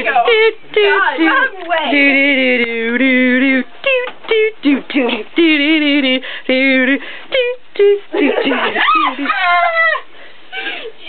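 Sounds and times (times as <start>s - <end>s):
person singing wordless tune: 0.0s - 9.2s.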